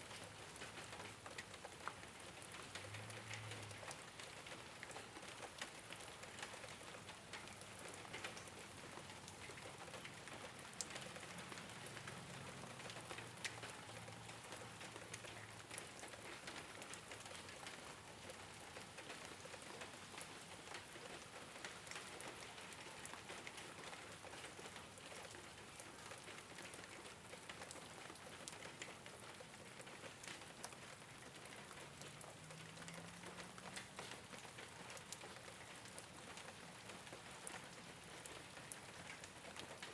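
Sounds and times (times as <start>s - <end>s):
rain on a rooftop: 0.0s - 39.9s.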